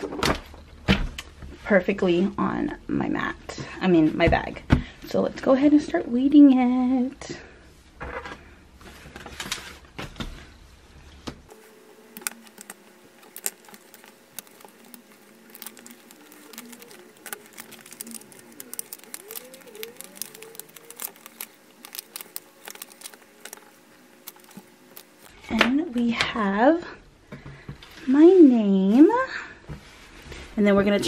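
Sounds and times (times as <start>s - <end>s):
faint room hum: 0.0s - 31.0s.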